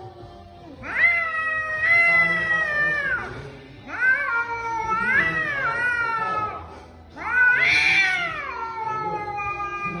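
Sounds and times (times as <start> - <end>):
cat yowling: 0.8 - 10.0.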